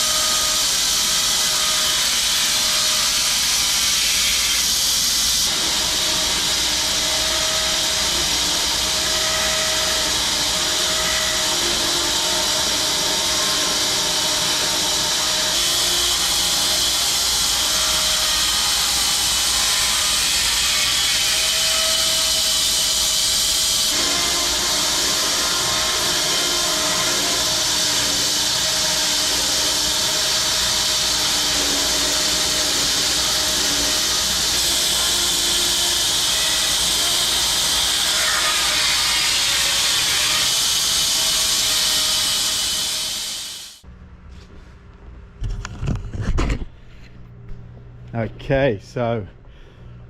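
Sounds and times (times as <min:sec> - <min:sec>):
bandsaw mill sawing a log: 0:00.0 - 0:43.8.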